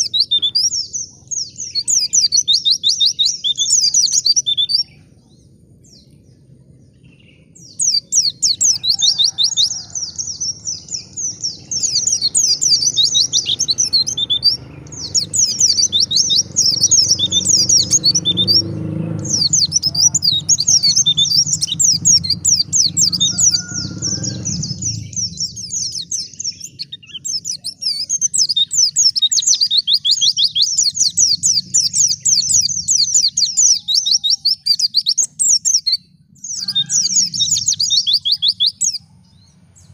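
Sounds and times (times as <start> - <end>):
birds twittering trills: 0.0 - 39.9.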